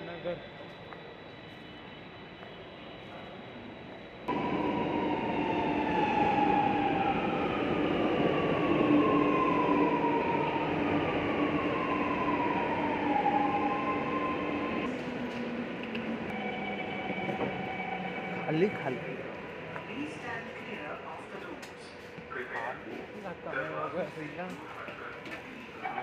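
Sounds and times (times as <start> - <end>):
metro train rumbling: 0.0 - 26.0.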